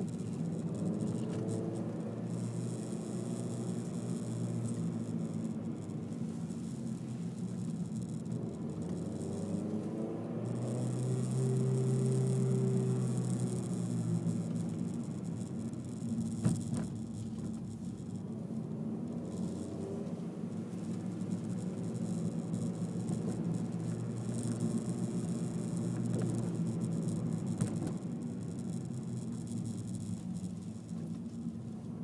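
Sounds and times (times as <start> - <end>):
car engine running: 0.0 - 32.0
road and tyre noise: 0.0 - 32.0.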